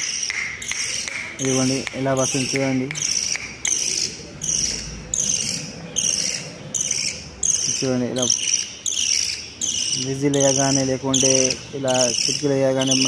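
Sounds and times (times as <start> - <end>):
bird chick begging calls: 0.6 - 13.0.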